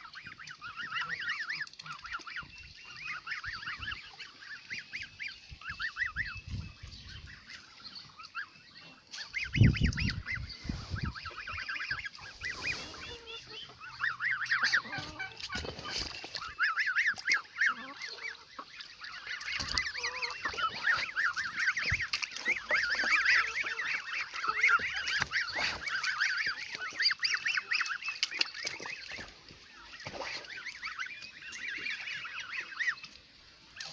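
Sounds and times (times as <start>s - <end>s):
geese calling: 0.0s - 33.9s.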